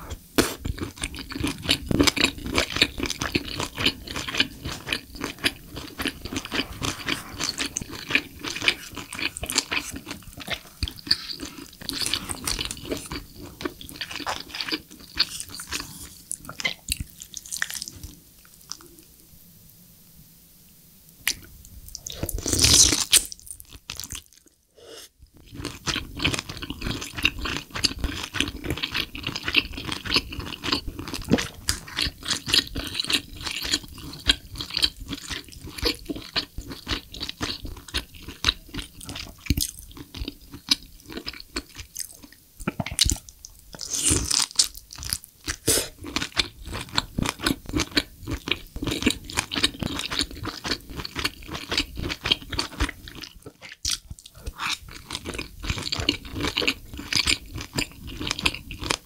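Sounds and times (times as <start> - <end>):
chewing with mouth clicks: 0.1 - 18.8, 25.4 - 59.0.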